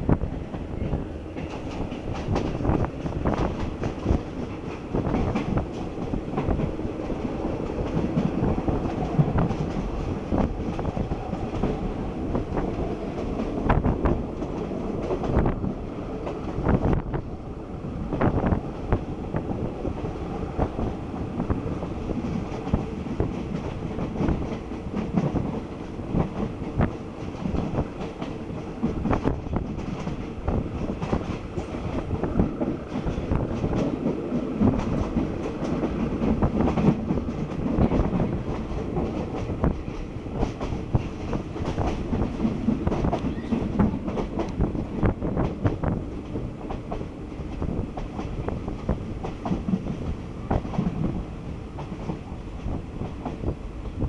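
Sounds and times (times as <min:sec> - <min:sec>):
train wheels rumbling on rails: 0:00.0 - 0:54.0
clacks over rail joints: 0:01.3 - 0:15.6, 0:22.1 - 0:51.2.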